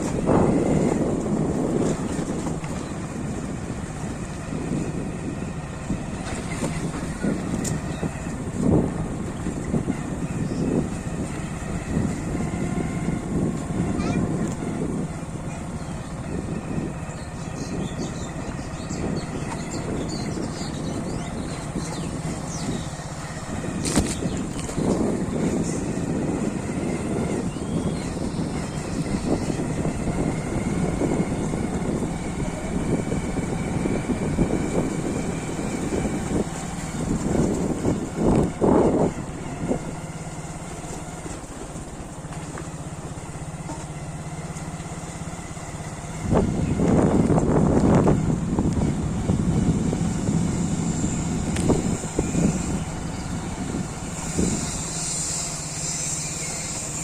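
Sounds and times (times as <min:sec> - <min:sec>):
motorcycle engine running: 0:00.0 - 0:57.0
wind buffeting on microphone: 0:00.0 - 0:57.0.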